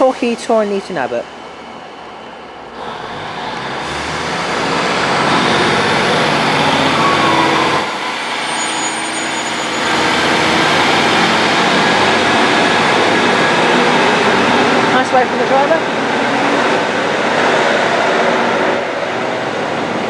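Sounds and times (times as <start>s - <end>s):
diesel railcar engine working hard: 0.0s - 20.0s.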